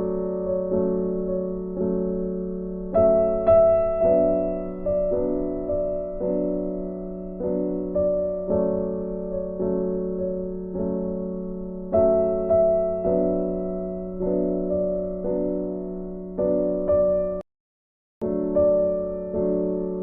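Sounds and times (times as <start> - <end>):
slow piano melody: 0.0 - 17.4, 18.2 - 20.0.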